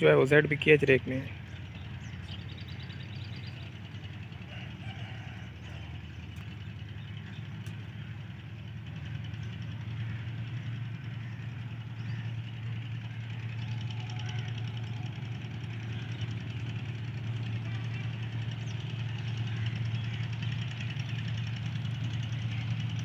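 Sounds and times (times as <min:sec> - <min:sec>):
locomotive engine drone: 0:00.0 - 0:23.0.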